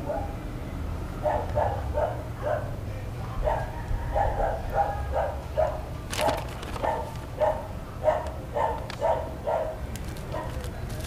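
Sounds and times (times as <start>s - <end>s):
dog barking: 0.0s - 0.4s, 1.2s - 2.8s, 3.4s - 10.6s.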